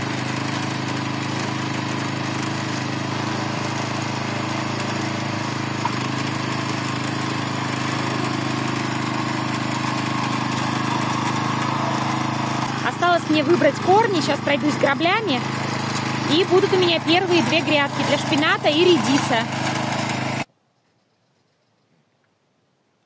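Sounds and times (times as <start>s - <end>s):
garden tiller engine running: 0.0s - 20.5s.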